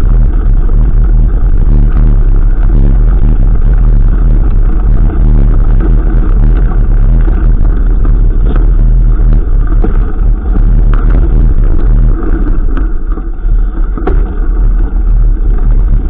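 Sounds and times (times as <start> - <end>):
bike knocks and rattles: 0.0 - 16.0
wind rumble on microphone: 0.0 - 16.0.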